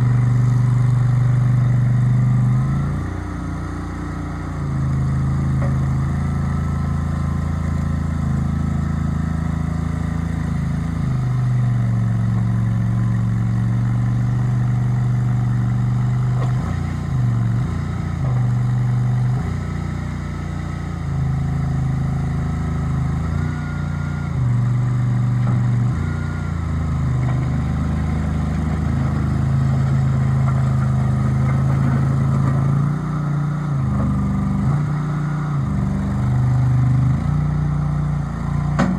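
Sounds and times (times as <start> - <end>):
skid steer loader engine running: 0.0 - 38.9.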